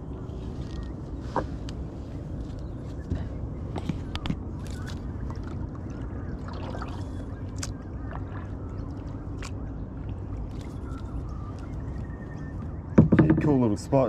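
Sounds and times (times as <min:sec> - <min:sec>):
steady low rumble: 0:00.0 - 0:13.0
paddle in water: 0:00.1 - 0:14.0.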